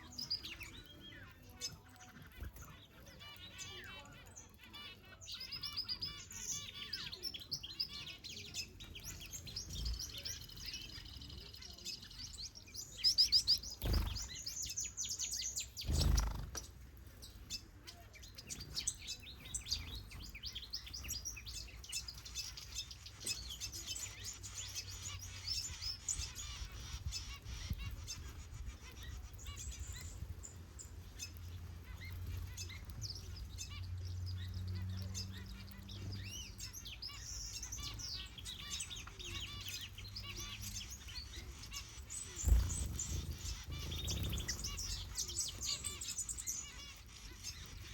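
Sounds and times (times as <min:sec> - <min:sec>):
flock of finches chirping: 0:00.0 - 0:47.9.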